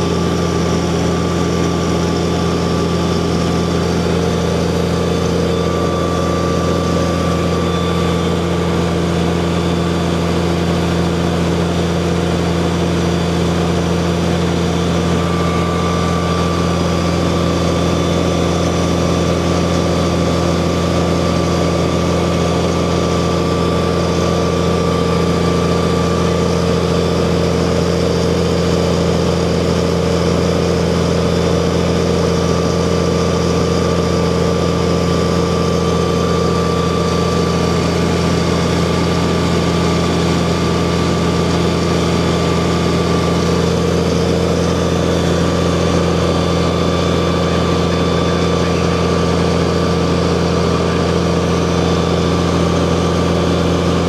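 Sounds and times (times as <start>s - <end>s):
fire engine engine droning: 0.0s - 54.0s.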